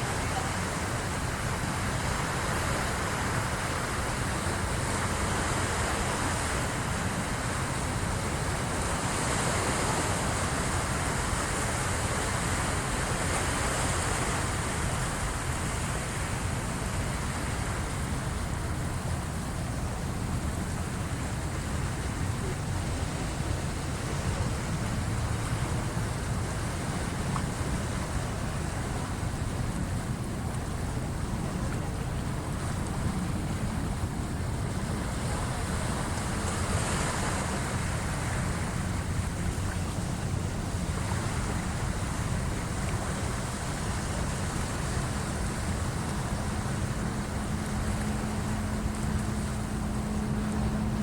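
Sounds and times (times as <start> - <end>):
surf rushing: 0.0 - 51.0
wind on microphone: 0.0 - 51.0.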